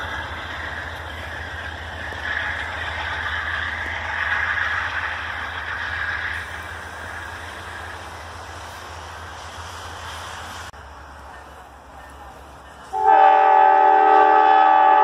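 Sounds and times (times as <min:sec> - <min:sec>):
train cars rolling on rails: 0:00.0 - 0:15.0.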